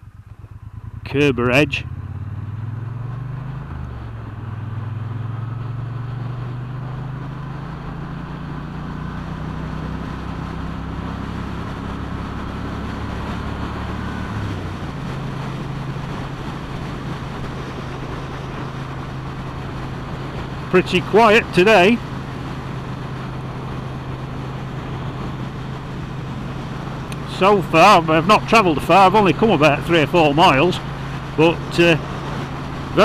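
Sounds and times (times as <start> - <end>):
motorcycle engine running: 0.0 - 33.0
road and wind noise: 0.0 - 33.0.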